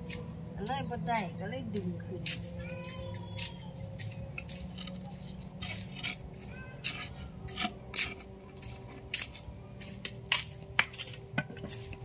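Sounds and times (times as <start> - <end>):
soil scraping and rustling: 2.2 - 12.0.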